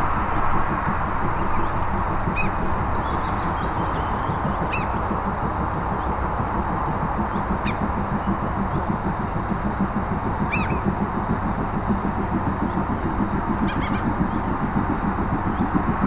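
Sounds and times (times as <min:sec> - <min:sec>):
steam locomotive exhaust rumble: 0:00.0 - 0:16.0
bird chirps: 0:02.3 - 0:15.6.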